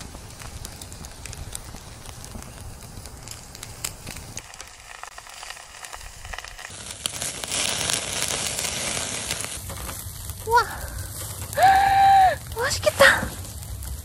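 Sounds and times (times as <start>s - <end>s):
charcoal fire crackling: 0.0s - 14.0s
fat sizzling on coals: 0.0s - 14.0s.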